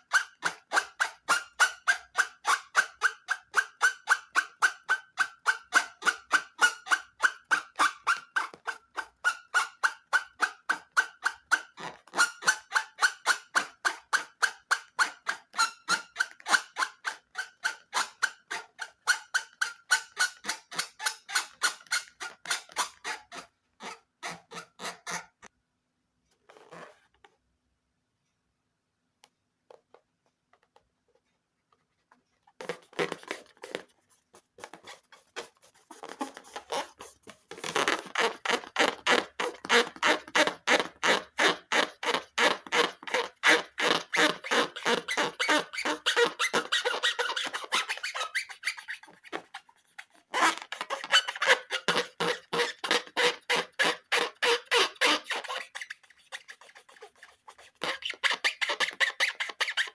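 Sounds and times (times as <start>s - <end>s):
balloons and slime squeaking: 0.0s - 25.4s, 32.5s - 59.9s.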